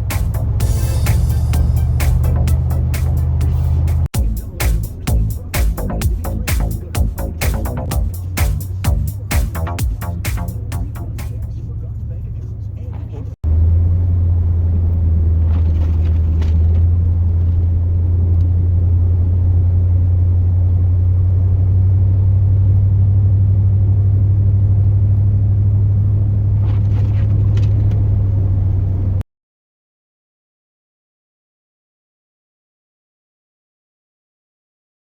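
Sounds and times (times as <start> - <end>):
truck engine low rumble: 0.0 - 29.2.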